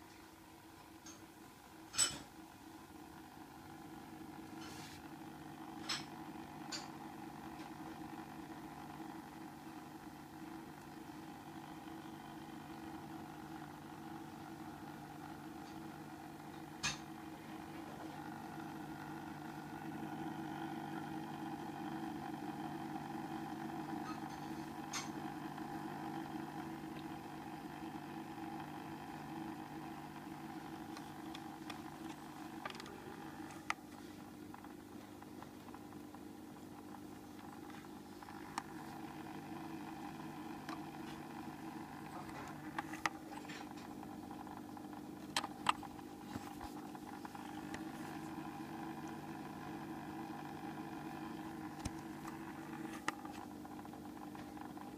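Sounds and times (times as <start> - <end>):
aquarium filter motor humming: 0.0 - 54.9.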